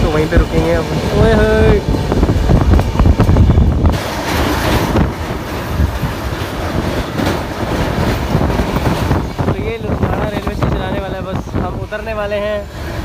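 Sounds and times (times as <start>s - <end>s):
train wheels clattering over rails: 0.0s - 13.0s.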